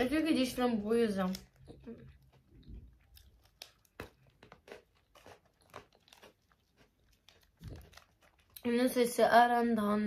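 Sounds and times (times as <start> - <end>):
faint crunching of biscuit chewed: 0.7 - 8.9.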